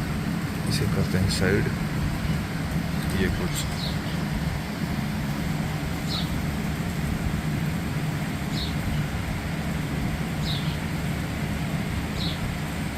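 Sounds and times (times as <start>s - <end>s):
low background hum and rumble: 0.0s - 12.9s.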